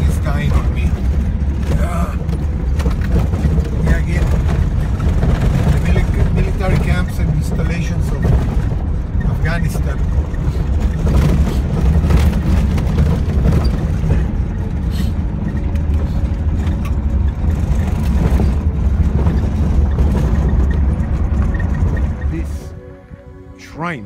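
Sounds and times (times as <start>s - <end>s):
rattles and knocks: 0.0s - 22.8s
car engine and road rumble: 0.0s - 24.0s.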